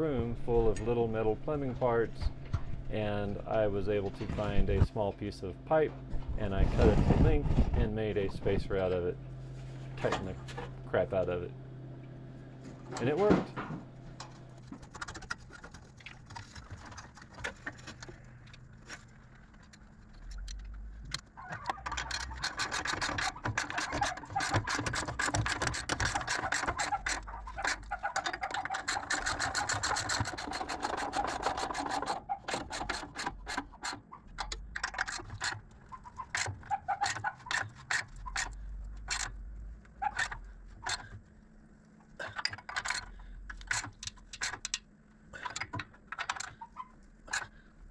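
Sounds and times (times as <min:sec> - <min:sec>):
scraping: 0:00.5 - 0:39.4.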